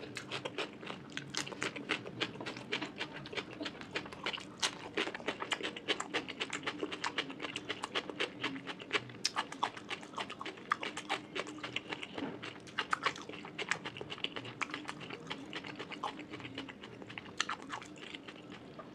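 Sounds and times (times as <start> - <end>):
person chewing with mouth clicks: 0.0 - 18.7.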